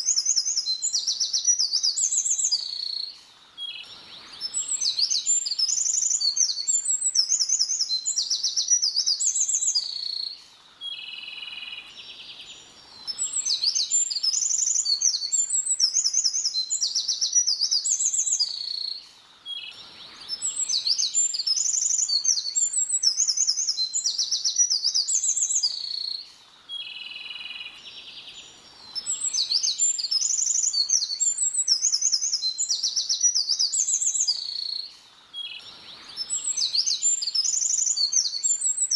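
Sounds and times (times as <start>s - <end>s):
quiet buzzy bird trill: 0.0s - 38.9s
songbird singing whistles and trills: 0.0s - 38.9s.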